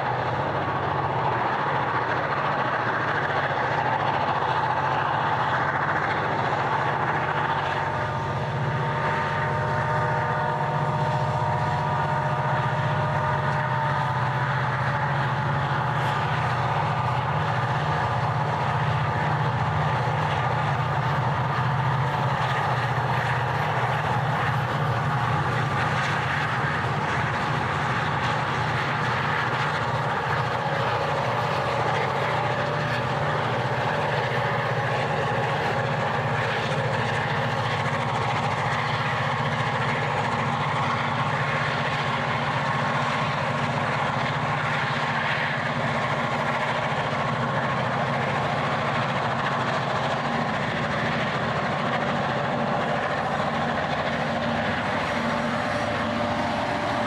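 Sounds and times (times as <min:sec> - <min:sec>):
diesel locomotives droning under load: 0:00.0 - 0:57.0.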